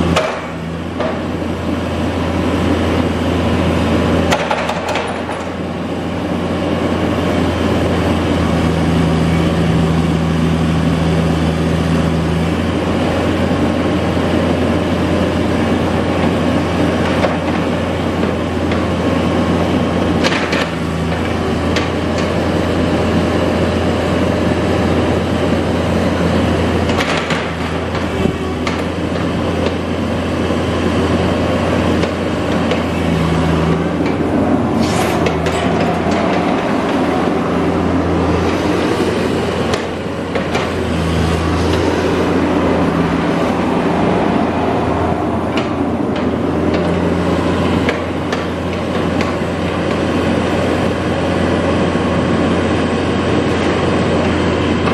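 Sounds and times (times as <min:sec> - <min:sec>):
excavator diesel engine running: 0:00.0 - 0:54.9
higher hydraulic hum: 0:00.0 - 0:54.9.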